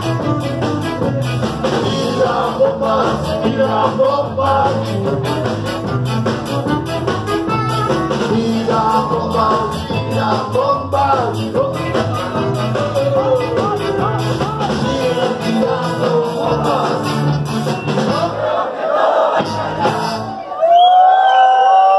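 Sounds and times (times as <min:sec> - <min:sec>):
live ska band playing: 0:00.0 - 0:18.6, 0:19.3 - 0:20.6.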